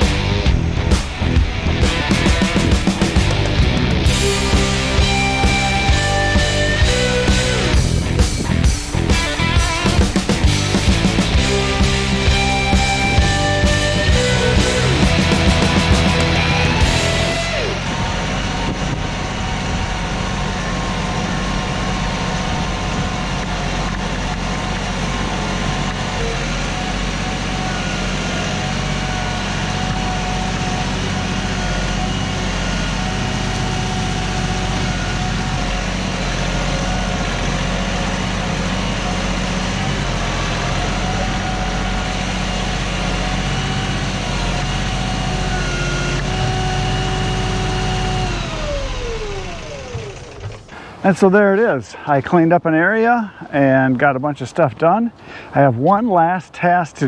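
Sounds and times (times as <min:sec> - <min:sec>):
machine engine running with whine: 0:00.0 - 0:50.7.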